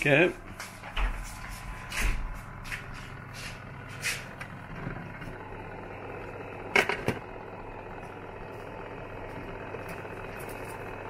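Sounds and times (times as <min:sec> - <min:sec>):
dehydrator fan humming: 0:00.0 - 0:11.0.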